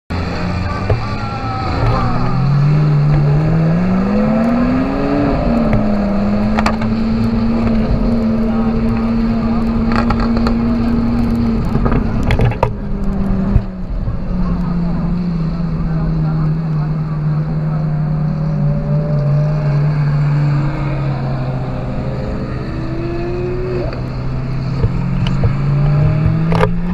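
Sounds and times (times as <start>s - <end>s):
sports car engine revving: 0.1s - 26.9s.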